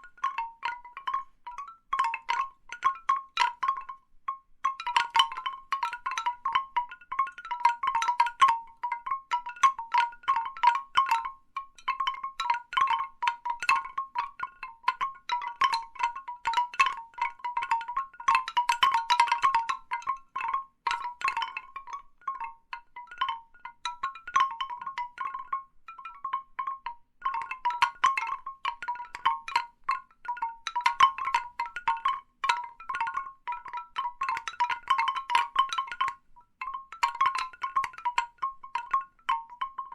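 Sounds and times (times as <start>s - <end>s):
bamboo wind chimes knocking: 0.0s - 39.9s.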